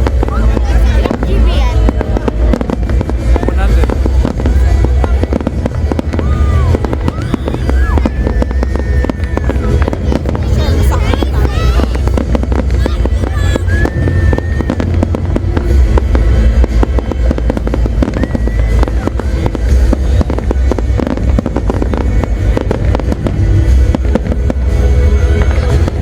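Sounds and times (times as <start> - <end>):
deep rumble of booms: 0.0 - 26.0
fireworks bangs and crackles: 0.0 - 26.0.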